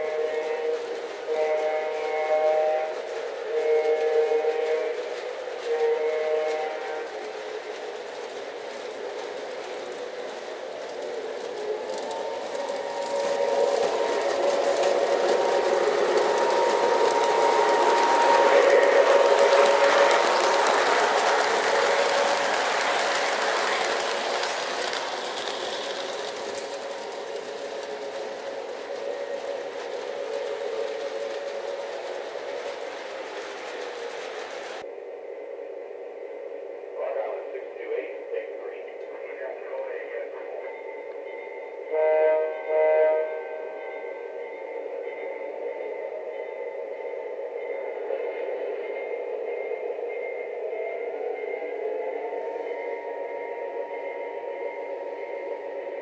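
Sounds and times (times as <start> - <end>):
model train humming and whining: 0.0 - 56.0.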